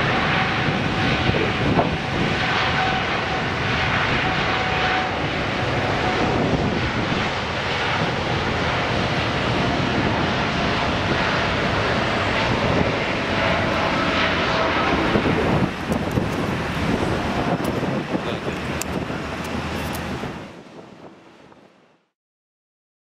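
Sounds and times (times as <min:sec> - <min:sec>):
faint jet whine: 0:00.0 - 0:22.1
jet engine roar: 0:00.0 - 0:22.1.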